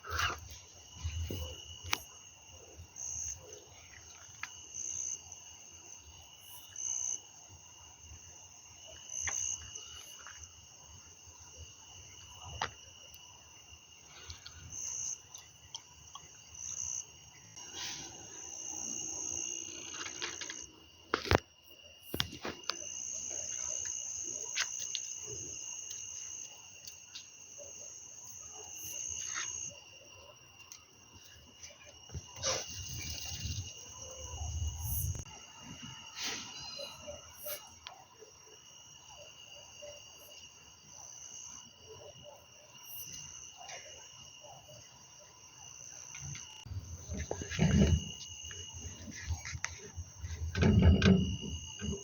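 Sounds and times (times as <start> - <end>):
higher intermittent insect trill: 0.0 - 52.0
steady high insect trill: 0.0 - 52.0.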